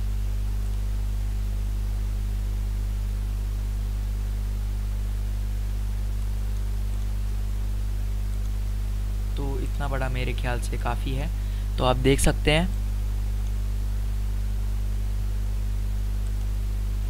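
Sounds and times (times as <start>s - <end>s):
electrical mains hum: 0.0s - 17.0s
microphone hiss: 0.0s - 17.0s.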